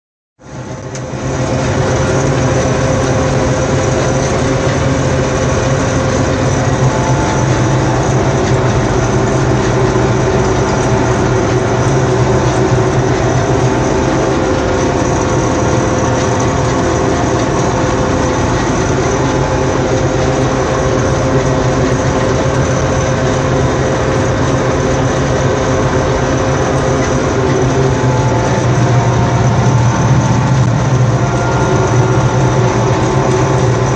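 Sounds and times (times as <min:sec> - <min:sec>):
combine harvester engine hum: 0:00.4 - 0:33.9
mechanical whine: 0:00.4 - 0:33.9.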